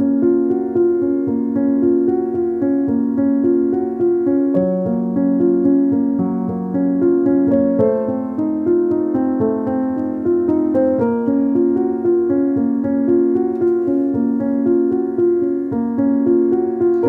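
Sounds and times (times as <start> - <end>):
piano-like keyboard music: 0.0 - 17.0.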